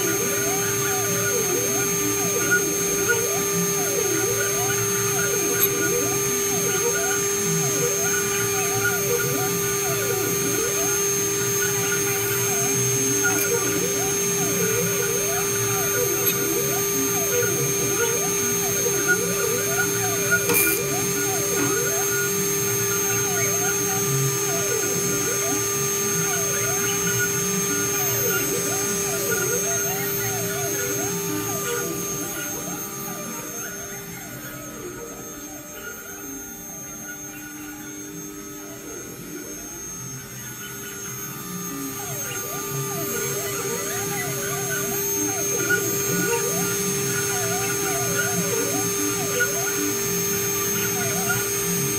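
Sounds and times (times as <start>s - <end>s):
motors whirring: 0.0s - 51.9s
spindle high whine: 0.0s - 51.9s.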